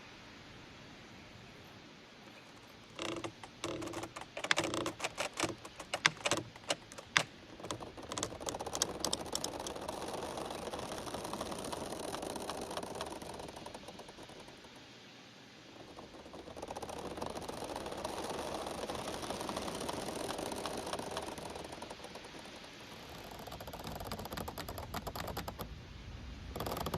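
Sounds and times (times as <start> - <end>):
bamboo stems creaking: 2.3 - 25.7, 26.5 - 26.9.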